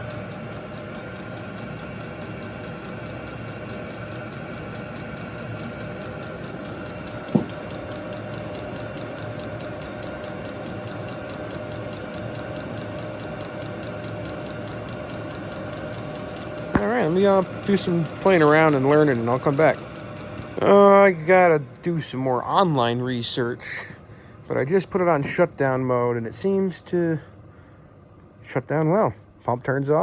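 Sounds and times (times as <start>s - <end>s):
air heater humming and whining: 0.0s - 30.0s.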